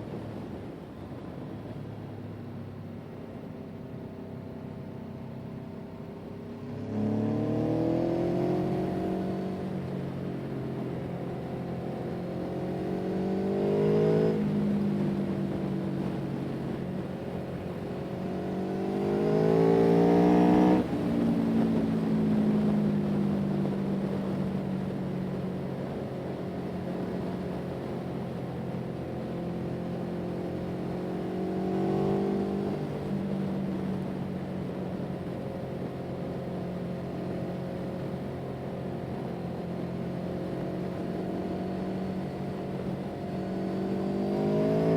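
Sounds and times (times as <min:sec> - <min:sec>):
vehicle engine accelerating: 0:06.0 - 0:44.9.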